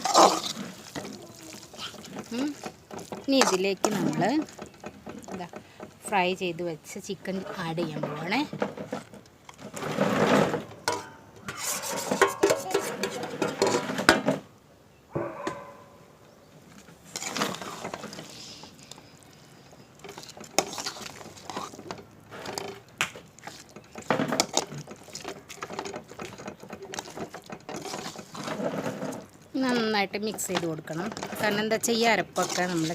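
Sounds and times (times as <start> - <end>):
metal spoon scraping a pan: 0.0 - 6.5, 7.2 - 14.3, 17.0 - 32.9.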